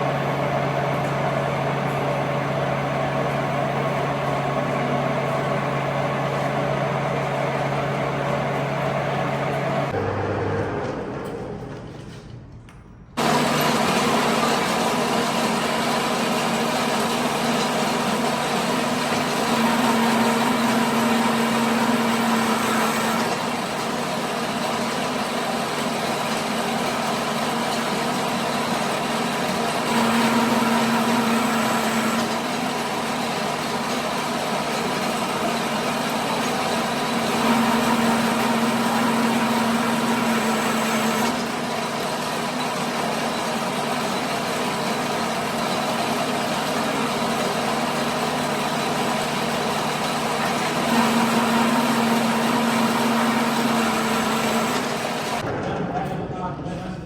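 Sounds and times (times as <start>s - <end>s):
workshop machine humming: 0.0s - 57.0s.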